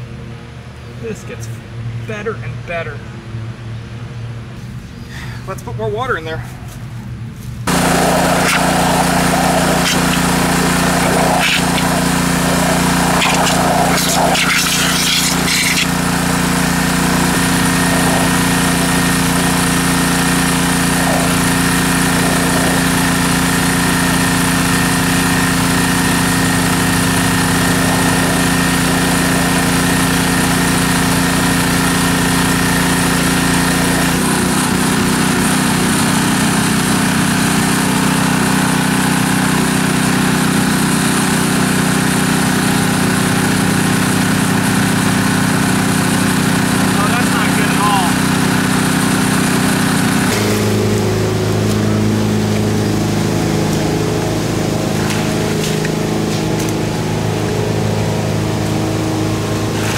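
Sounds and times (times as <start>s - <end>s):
pressure washer engine running: 7.7s - 59.9s
water spraying into muddy hole: 7.7s - 59.9s.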